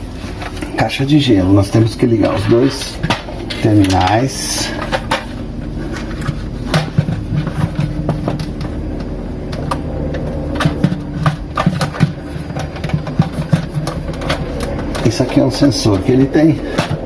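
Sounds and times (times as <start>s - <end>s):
steady low hum: 0.0s - 17.0s
plastic parts clicking and knocking: 1.7s - 16.0s, 16.6s - 17.0s.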